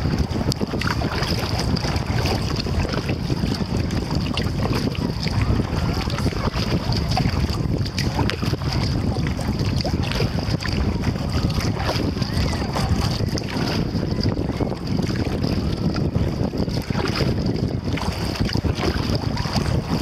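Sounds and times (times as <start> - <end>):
paddle splashing and dripping: 0.0 - 20.0
wind rumbling on microphone: 0.0 - 20.0.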